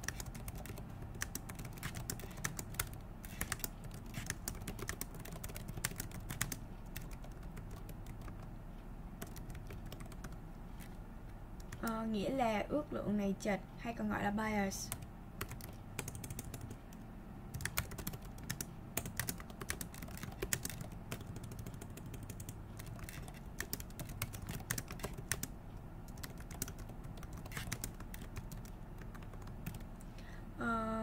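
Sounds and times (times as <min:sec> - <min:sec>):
keyboard typing clicks: 0:00.0 - 0:08.5, 0:09.2 - 0:11.0, 0:14.9 - 0:25.5, 0:26.1 - 0:30.1
low steady hum: 0:00.0 - 0:31.0.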